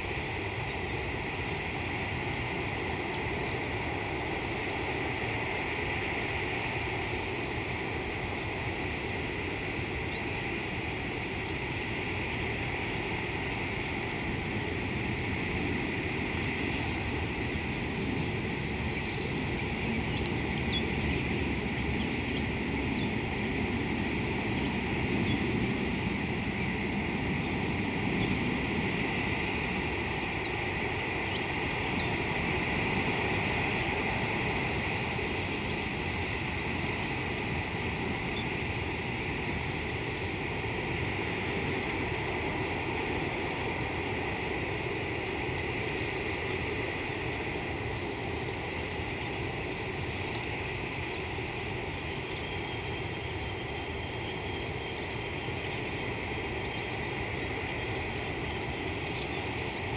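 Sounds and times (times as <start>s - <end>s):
continuous high drone: 0.0s - 59.9s.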